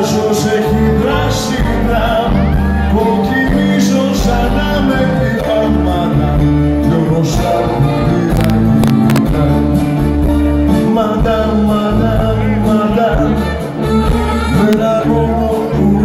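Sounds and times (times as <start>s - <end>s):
live band playing: 0.0s - 16.0s
man singing: 0.0s - 16.0s.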